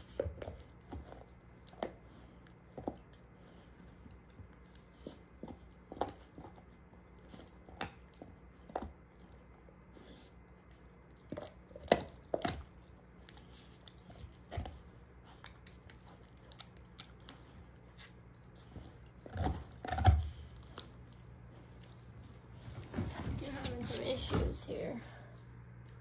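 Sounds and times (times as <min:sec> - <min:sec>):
dog crunching a bone: 0:00.0 - 0:23.8.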